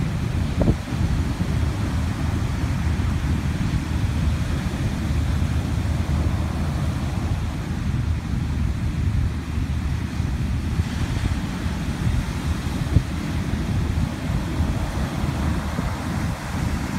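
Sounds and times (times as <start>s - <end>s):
heavy surf breaking: 0.0s - 16.9s
wind buffeting microphone: 0.0s - 16.9s.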